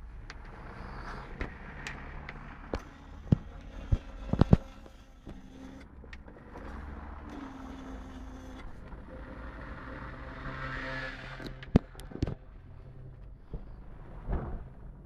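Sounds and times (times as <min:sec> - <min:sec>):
engine low drone: 0:00.0 - 0:15.0.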